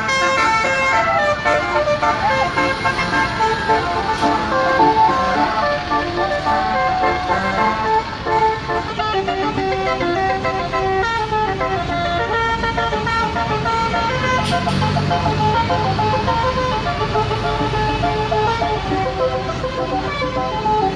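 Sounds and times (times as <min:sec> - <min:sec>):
bus horn playing melodic tune: 0:00.0 - 0:20.9
low engine hum: 0:00.6 - 0:20.9.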